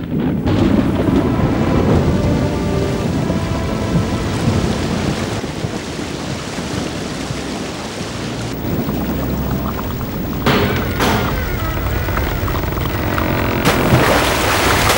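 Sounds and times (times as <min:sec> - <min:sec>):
muffled underwater rumble: 0:00.0 - 0:05.9, 0:06.8 - 0:14.9
heavy rain: 0:00.0 - 0:14.9
rolling thunder: 0:00.0 - 0:14.9.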